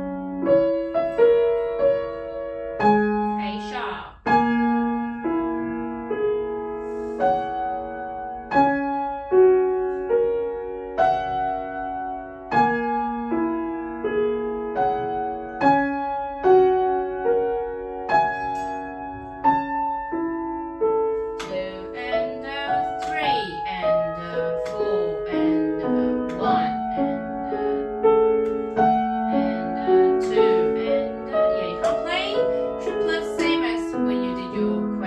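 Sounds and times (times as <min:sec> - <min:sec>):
grand piano playing: 0:00.0 - 0:35.0.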